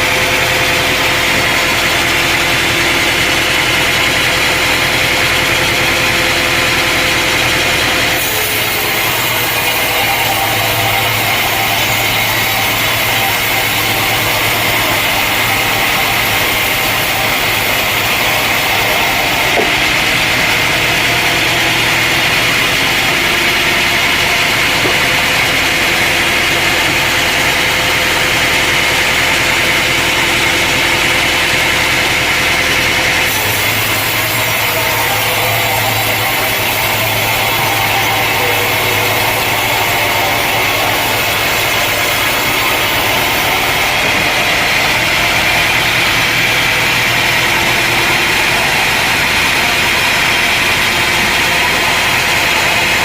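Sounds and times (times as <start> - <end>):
engine hum: 0.0 - 53.0
saw blade cutting wood: 0.0 - 53.0.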